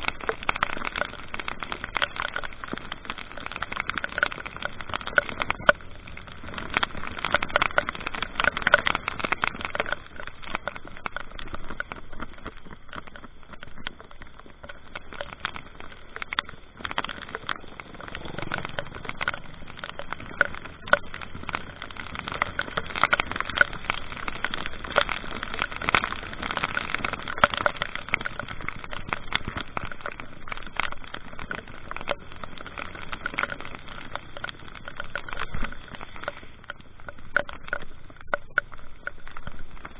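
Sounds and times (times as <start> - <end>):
road and wind noise: 0.0 - 39.9
small scattered ticks: 0.0 - 39.9.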